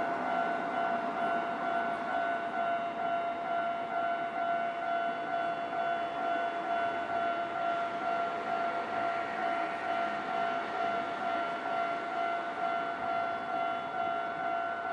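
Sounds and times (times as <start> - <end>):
level-crossing warning bell: 0.0 - 14.9.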